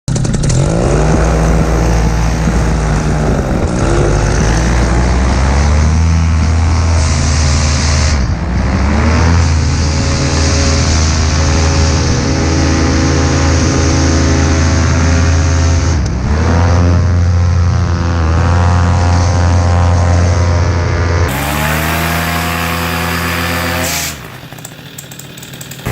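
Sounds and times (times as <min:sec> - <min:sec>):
loud steady engine buzzing: 0:00.0 - 0:25.9.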